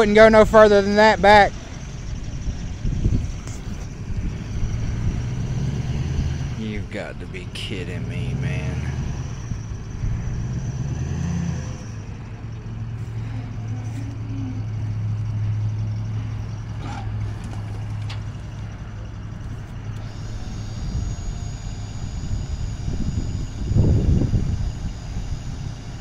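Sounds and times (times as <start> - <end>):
hydraulic hoist hum and whine: 0.0 - 26.0.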